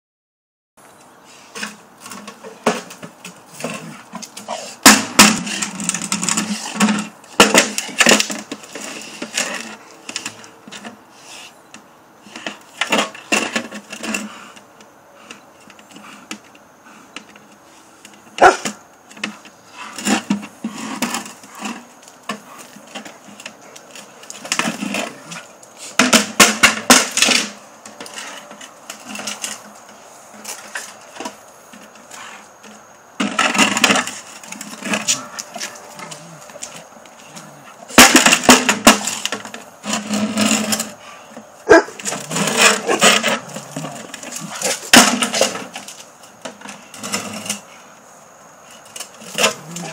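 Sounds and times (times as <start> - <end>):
plastic bucket scraping on concrete: 1.3 - 11.6, 12.2 - 48.0, 48.6 - 49.9.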